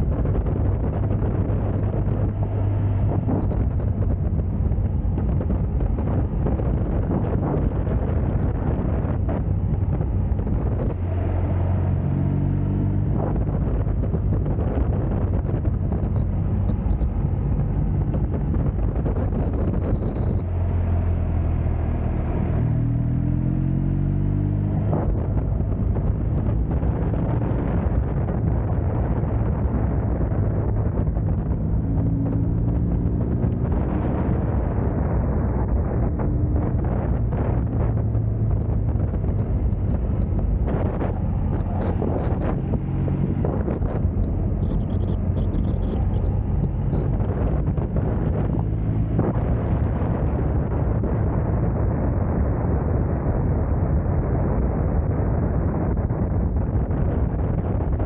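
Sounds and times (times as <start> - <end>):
motorcycle engine accelerating: 0.0 - 52.1
steady rushing noise: 0.0 - 58.0.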